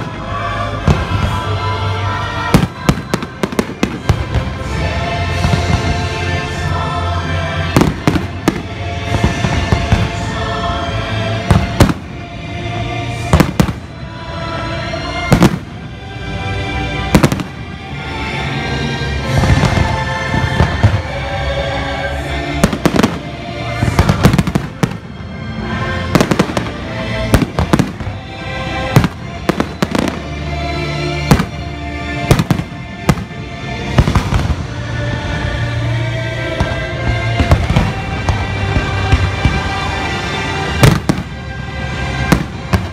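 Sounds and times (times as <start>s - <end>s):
loud music: 0.0s - 42.9s.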